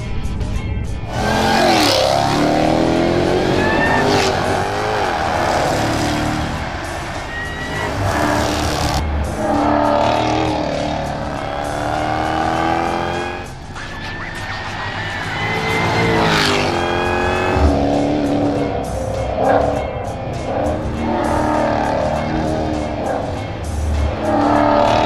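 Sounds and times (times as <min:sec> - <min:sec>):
music: 0:00.0 - 0:25.0
car engine accelerating hard: 0:01.1 - 0:13.8, 0:14.4 - 0:25.0.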